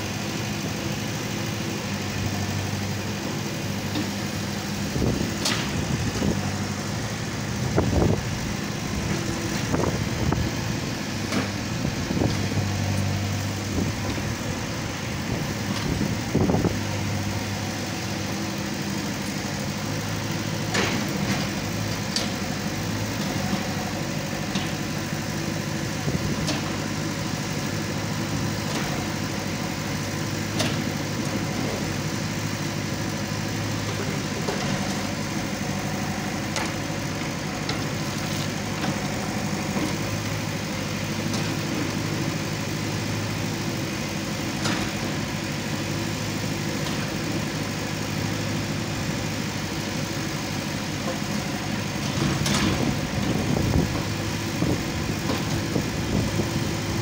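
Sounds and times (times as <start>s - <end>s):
backhoe digging soil: 0.0s - 57.0s
diesel engine running: 0.0s - 57.0s.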